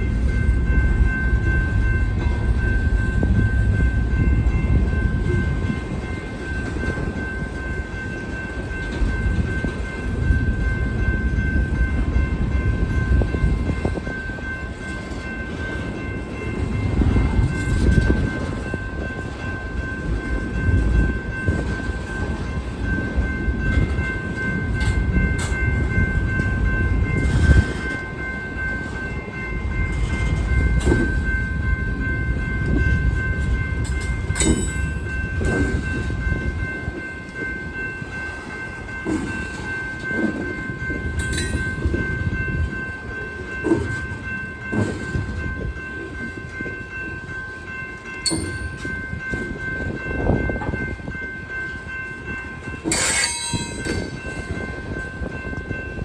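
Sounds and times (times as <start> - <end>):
freight train rumbling by: 0.0 - 56.0.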